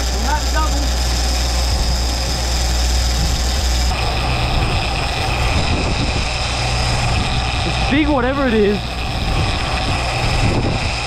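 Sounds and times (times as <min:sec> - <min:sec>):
outboard motor hum: 0:00.0 - 0:11.0.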